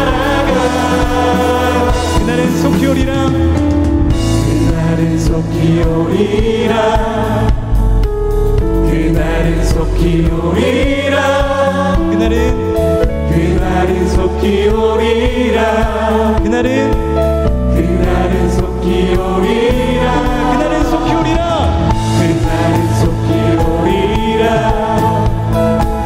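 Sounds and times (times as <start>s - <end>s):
group singing together: 0.0s - 3.4s, 4.3s - 7.9s, 8.8s - 12.5s, 13.2s - 17.0s, 17.7s - 25.9s
acoustic guitar and band: 0.0s - 26.0s.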